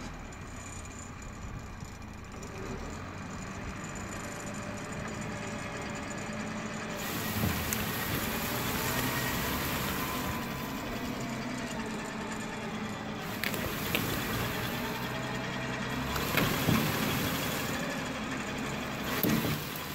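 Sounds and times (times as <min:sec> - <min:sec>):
bulldozer diesel engine running: 0:00.0 - 0:19.9.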